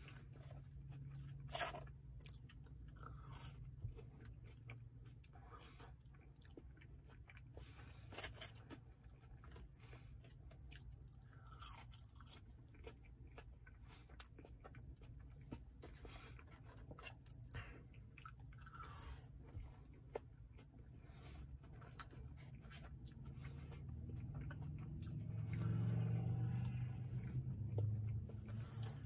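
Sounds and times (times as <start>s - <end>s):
chewing food: 0.0s - 29.0s.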